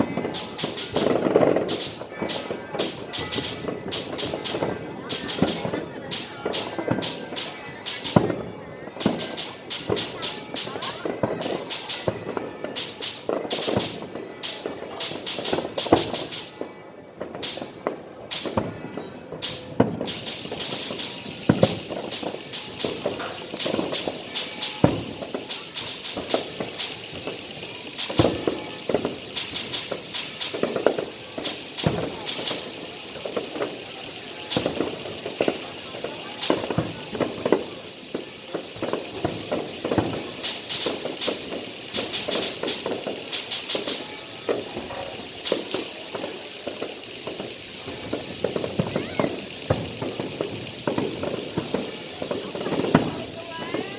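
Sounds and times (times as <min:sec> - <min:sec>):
sharp firework bangs: 0:00.0 - 0:16.6, 0:17.2 - 0:53.9
fireworks popping and crackling: 0:00.0 - 0:53.9.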